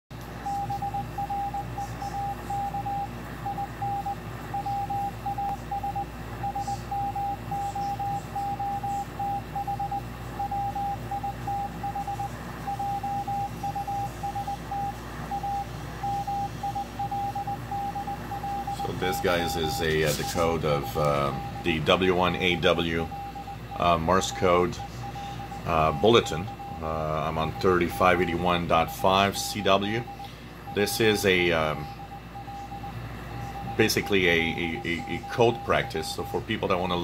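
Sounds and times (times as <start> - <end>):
radio hiss and hum: 0.1 - 37.0
morse code beeps: 0.4 - 37.0.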